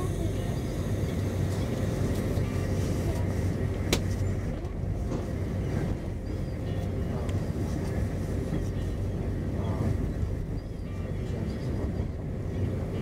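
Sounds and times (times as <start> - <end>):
train low hum and rumble: 0.0 - 13.0.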